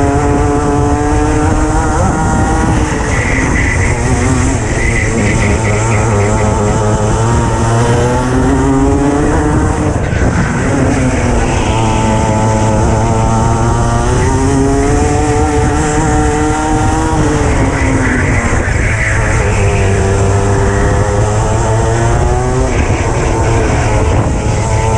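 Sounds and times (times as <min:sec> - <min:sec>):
kart engine accelerating: 0:00.0 - 0:24.9.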